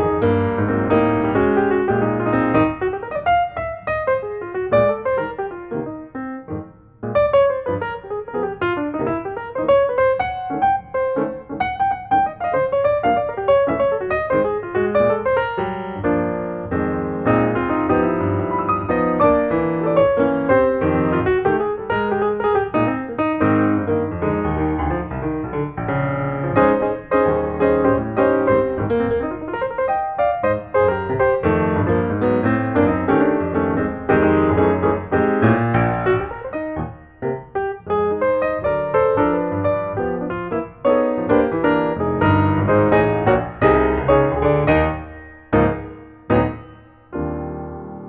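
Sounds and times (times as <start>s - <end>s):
piano music: 0.0s - 48.0s.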